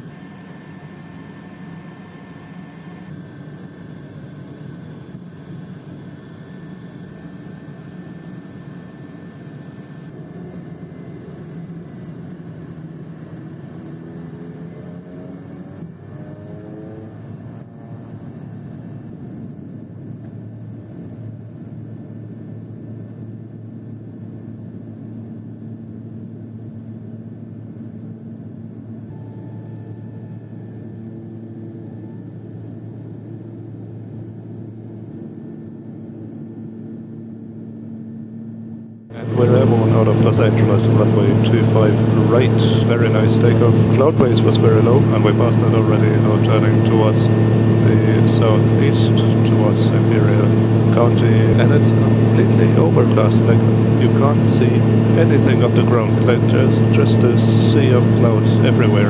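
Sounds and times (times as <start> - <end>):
turboprop engine whine and drone: 0.0 - 59.0.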